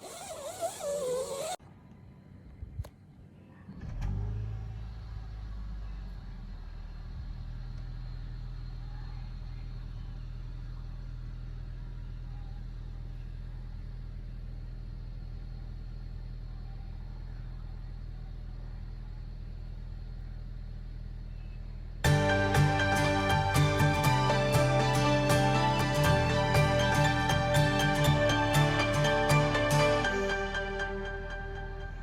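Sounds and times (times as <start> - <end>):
low engine-like rumble: 1.7 - 32.0.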